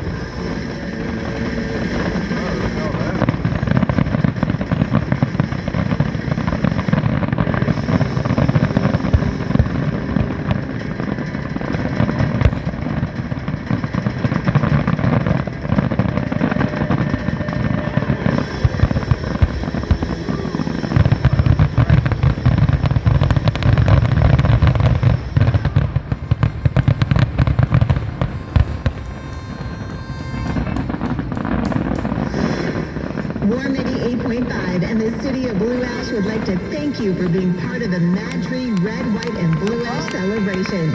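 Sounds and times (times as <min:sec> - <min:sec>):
fireworks barrage of booms: 0:00.0 - 0:40.9.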